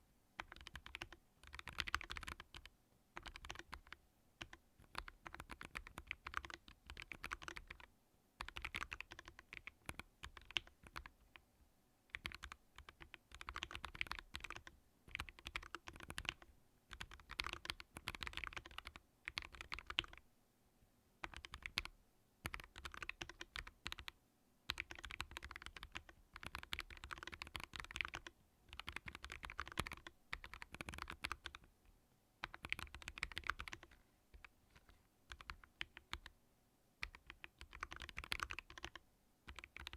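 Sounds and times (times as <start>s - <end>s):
mechanical keyboard typing: 0.4s - 11.4s, 12.1s - 20.2s, 21.2s - 31.7s, 32.4s - 36.3s, 37.0s - 39.9s.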